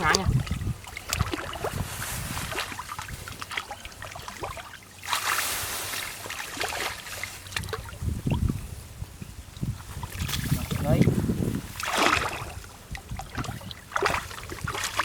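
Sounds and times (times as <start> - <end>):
hands splashing in muddy water: 0.0 - 8.0, 9.8 - 15.0.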